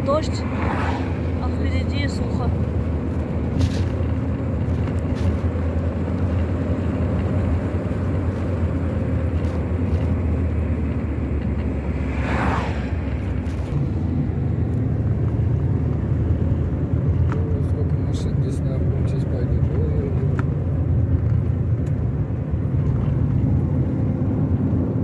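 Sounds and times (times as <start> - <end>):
car road rumble from inside: 0.0 - 25.0.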